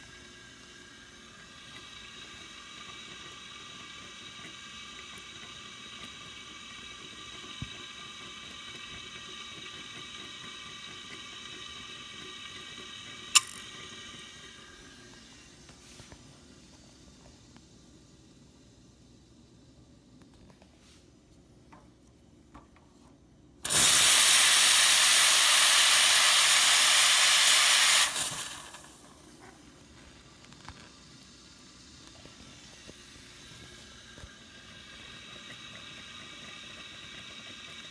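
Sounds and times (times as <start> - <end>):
espresso machine boiler hissing: 0.0 - 21.2, 23.6 - 37.9.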